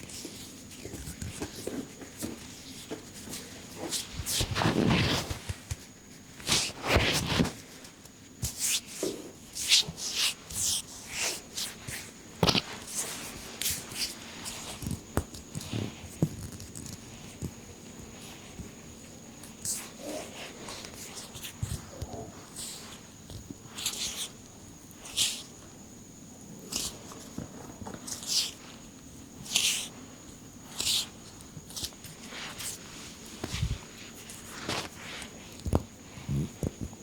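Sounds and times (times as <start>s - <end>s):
hands rubbing skin and hair: 0.0s - 25.7s, 26.6s - 37.0s.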